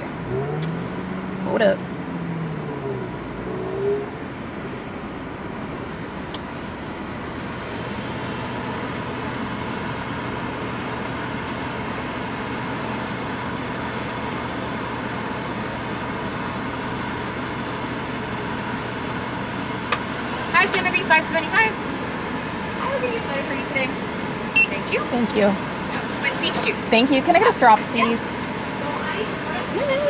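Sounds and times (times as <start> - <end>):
air conditioning blowing: 0.0 - 30.0
car engine idling: 0.0 - 30.0.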